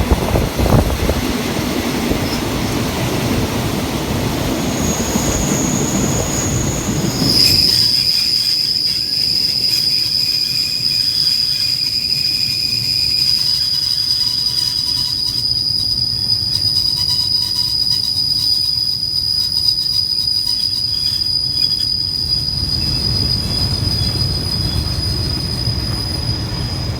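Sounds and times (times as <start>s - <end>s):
train rumble on rails: 0.0s - 26.9s.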